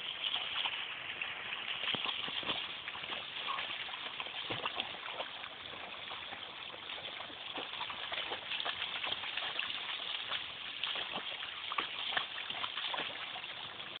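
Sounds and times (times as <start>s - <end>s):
dog splashing in water: 0.0s - 14.0s
flowing water rushing: 0.0s - 14.0s.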